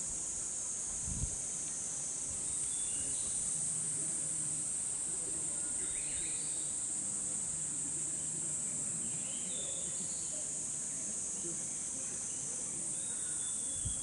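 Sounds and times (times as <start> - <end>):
cicadas droning: 0.0 - 14.0.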